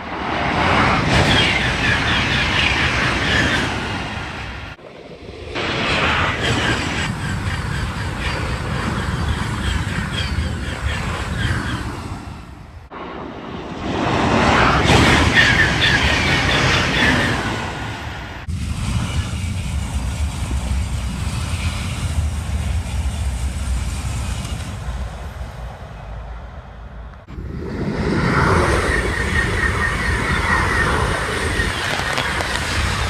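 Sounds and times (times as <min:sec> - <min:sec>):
distant train rumble: 0:00.0 - 0:33.0
high-speed train passing: 0:00.0 - 0:33.0.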